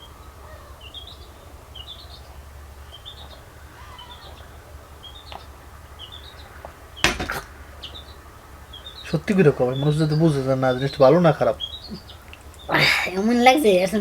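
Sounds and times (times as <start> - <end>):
low steady hum: 0.0 - 14.0
small bird chirping: 0.0 - 14.0.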